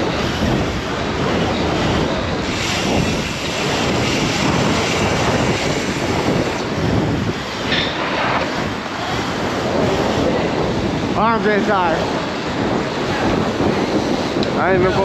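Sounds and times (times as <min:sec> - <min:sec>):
rushing road noise: 0:00.0 - 0:15.0
wind buffeting microphone: 0:00.0 - 0:15.0.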